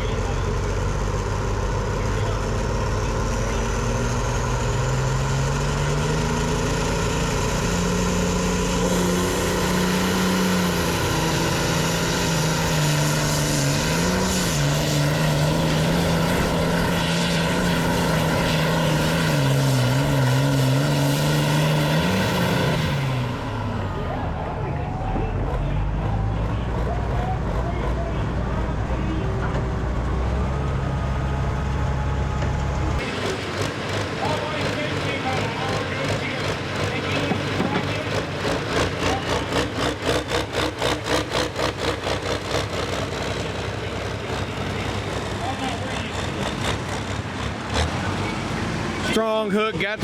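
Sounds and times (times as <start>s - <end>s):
engine at full throttle: 0.0s - 50.0s.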